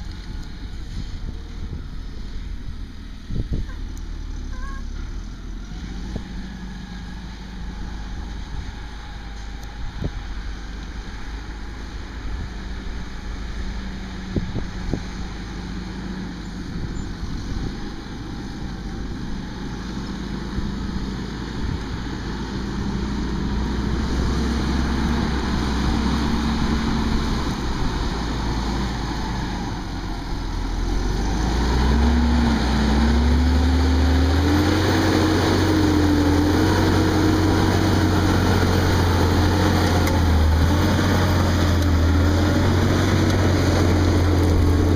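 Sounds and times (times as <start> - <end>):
tractor diesel engine under load: 0.0 - 44.9.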